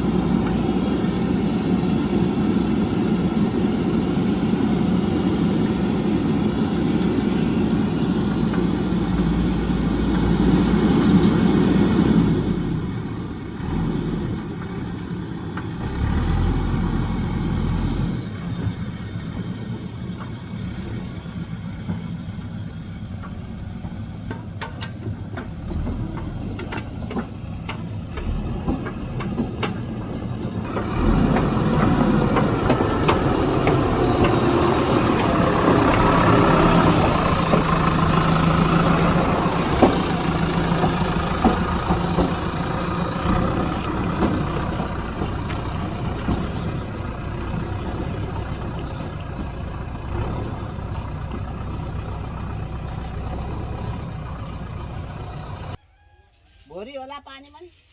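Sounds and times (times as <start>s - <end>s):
diesel engine idling: 0.0s - 55.8s.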